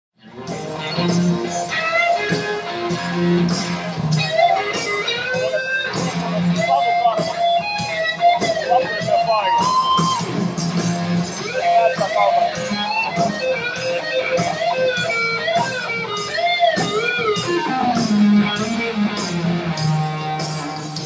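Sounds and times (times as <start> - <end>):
bass guitar: 0.2 - 21.0
electric guitar lead: 0.2 - 21.0
drums and cymbals: 0.3 - 21.0.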